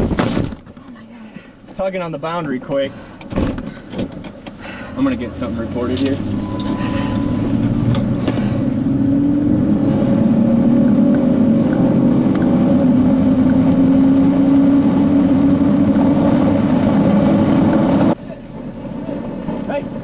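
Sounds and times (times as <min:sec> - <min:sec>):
car engine drone: 0:00.0 - 0:20.0
road noise: 0:00.0 - 0:20.0.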